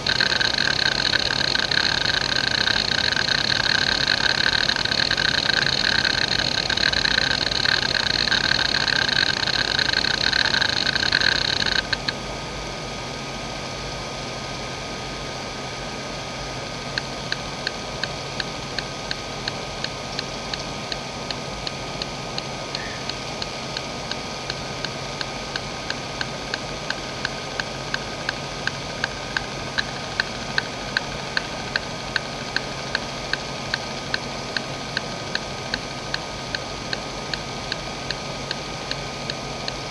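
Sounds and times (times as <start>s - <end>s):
hard drive heads clicking: 0.0s - 12.2s, 16.9s - 39.9s
hard drive head buzzing: 0.0s - 12.8s, 13.8s - 39.9s.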